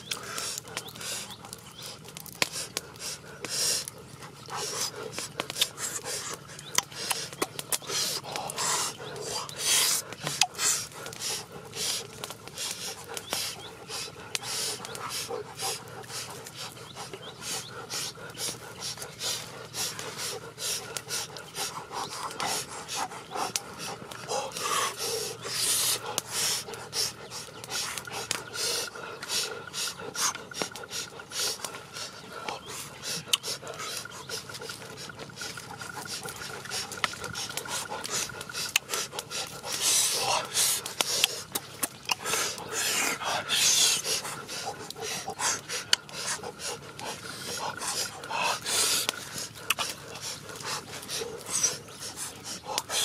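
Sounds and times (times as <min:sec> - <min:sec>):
heavy rhythmic breathing: 0:00.0 - 0:53.0.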